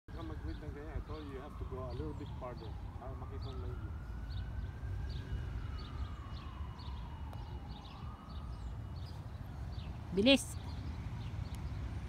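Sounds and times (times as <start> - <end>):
distant siren: 0.1 - 12.0.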